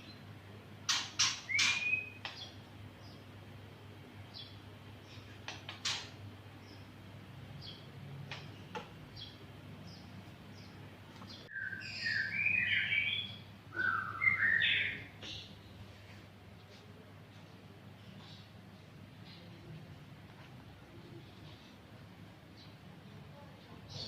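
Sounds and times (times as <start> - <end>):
songbirds chirping and warbling: 0.0 - 24.0.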